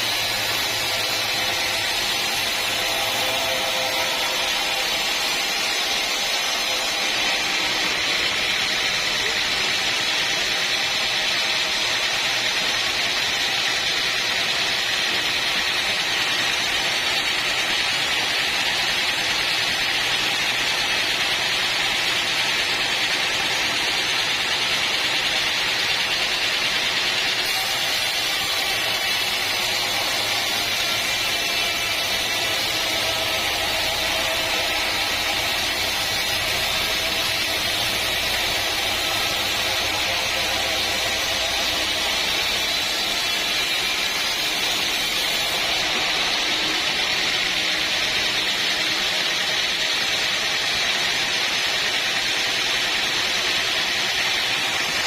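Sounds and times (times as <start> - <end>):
machinery whirring: 0.0 - 55.0.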